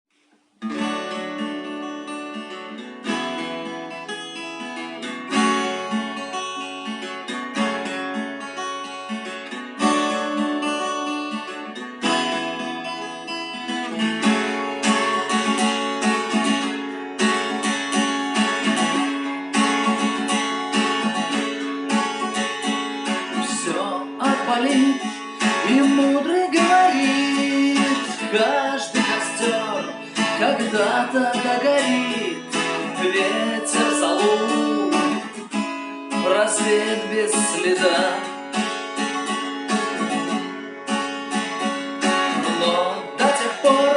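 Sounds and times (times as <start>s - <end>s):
acoustic guitar strumming: 0.6s - 43.9s.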